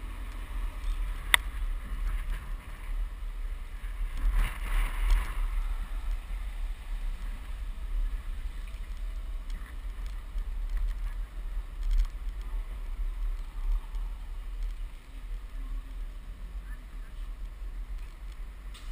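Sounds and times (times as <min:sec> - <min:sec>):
road noise: 0:00.0 - 0:18.9
wind buffeting microphone: 0:00.0 - 0:18.9.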